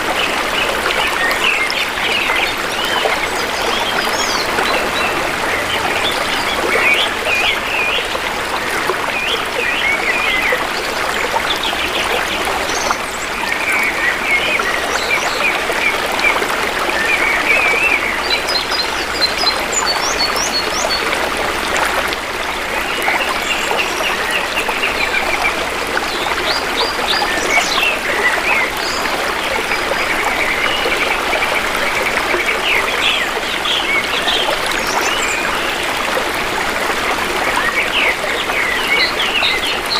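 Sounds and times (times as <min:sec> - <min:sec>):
shallow river water trickling: 0:00.0 - 0:39.9.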